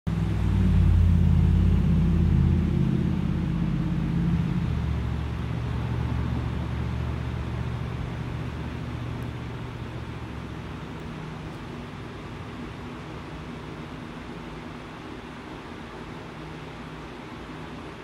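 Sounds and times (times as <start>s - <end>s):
low engine rumble: 0.1s - 18.0s.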